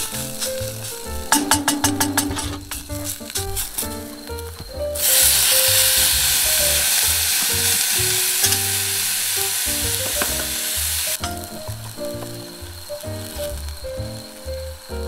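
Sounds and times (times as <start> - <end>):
food sizzling in hot oil: 0.0 - 4.3, 5.0 - 14.4
background music: 0.0 - 15.0.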